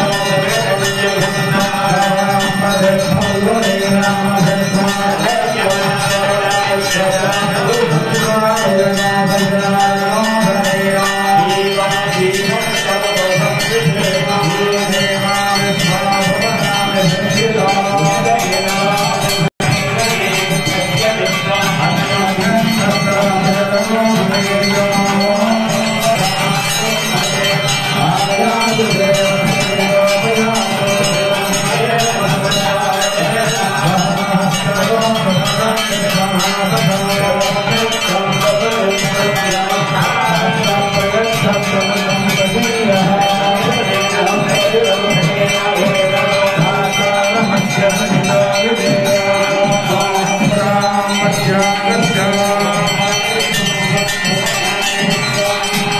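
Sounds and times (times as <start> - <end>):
devotional singing over microphone: 0.0 - 55.9
hand bells ringing: 0.0 - 55.9.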